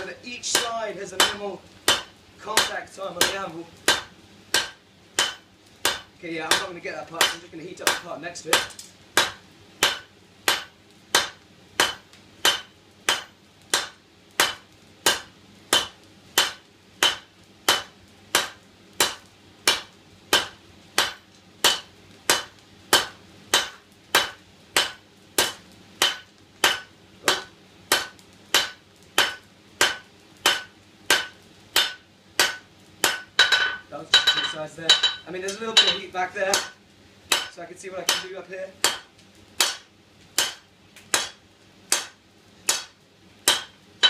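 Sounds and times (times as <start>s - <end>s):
hammer striking metal on anvil: 0.6s - 35.2s, 35.8s - 37.5s, 38.1s - 39.8s, 40.4s - 42.9s, 43.5s - 43.7s.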